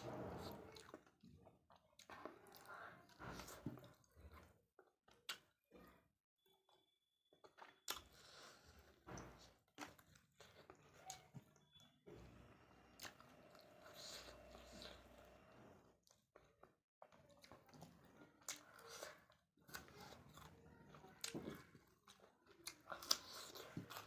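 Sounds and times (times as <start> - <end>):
person chewing food: 0.0 - 6.0, 6.6 - 24.0.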